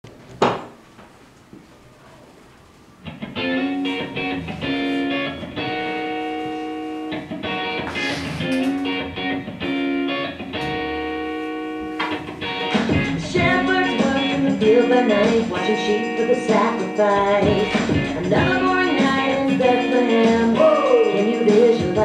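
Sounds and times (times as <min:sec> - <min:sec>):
instrumental guitar music: 0:03.0 - 0:22.0.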